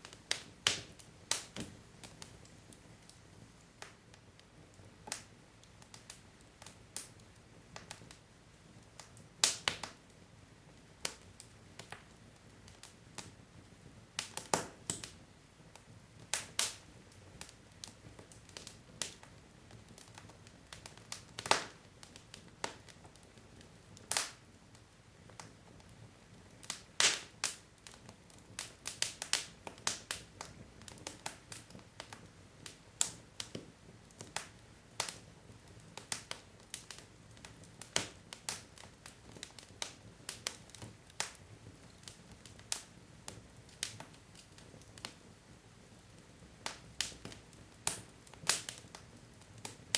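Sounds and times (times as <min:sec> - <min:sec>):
faint fire hiss: 0:00.0 - 0:49.9
wood fire crackling and popping: 0:00.0 - 0:49.9.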